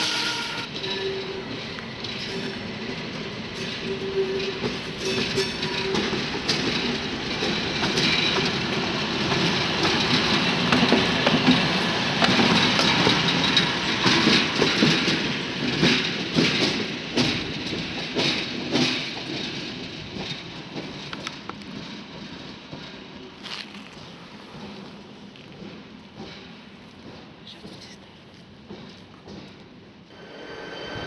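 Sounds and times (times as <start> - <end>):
diesel locomotive passing: 0.0 - 31.0
wheels clicking over rail joints: 0.7 - 30.1.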